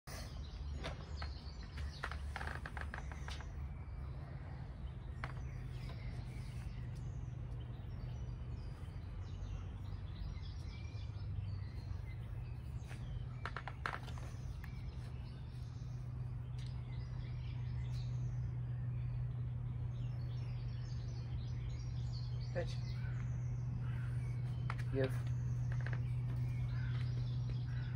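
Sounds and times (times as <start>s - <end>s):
birds chirping: 0.0s - 27.9s
steady low hum: 0.1s - 27.9s.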